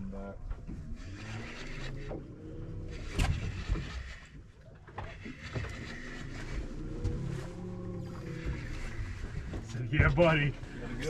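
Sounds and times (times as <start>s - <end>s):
electric trolling motor whine: 0.0s - 11.0s.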